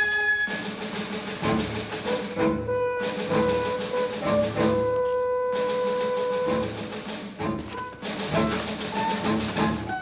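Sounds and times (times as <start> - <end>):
dramatic score with percussion: 0.0 - 10.0.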